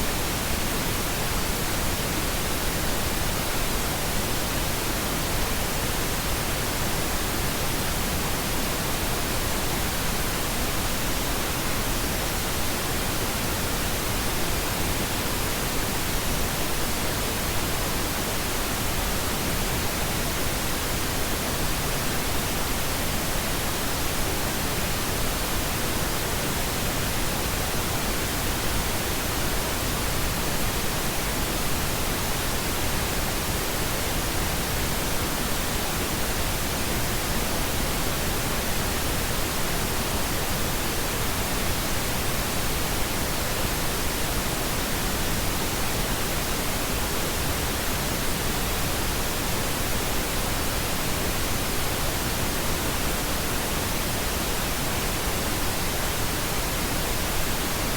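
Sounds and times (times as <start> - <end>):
pink noise hiss: 0.0 - 57.9.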